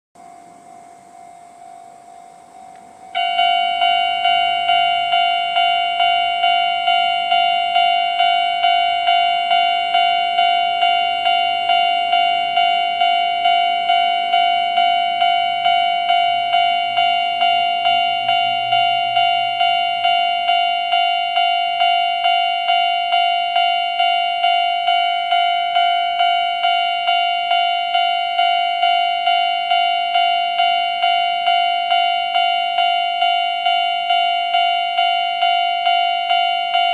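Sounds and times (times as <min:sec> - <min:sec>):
level crossing alarm dinging: 0:00.2 - 0:36.9.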